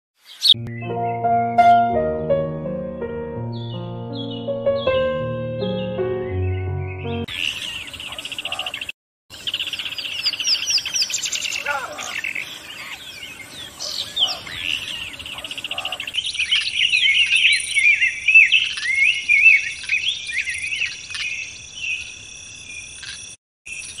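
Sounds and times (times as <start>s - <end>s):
songbirds chirping and trilling: 3.4s - 23.0s.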